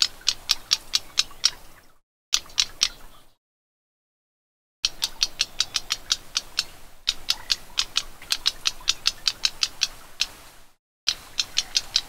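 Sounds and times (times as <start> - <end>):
bird clicking calls: 0.0 - 3.4, 4.8 - 12.0.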